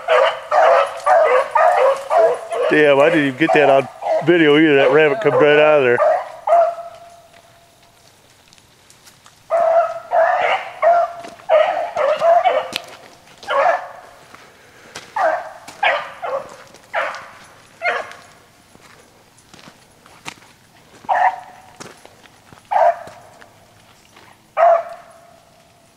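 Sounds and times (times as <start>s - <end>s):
hounds barking and yelping: 0.0s - 8.1s, 9.3s - 19.7s, 20.8s - 25.9s.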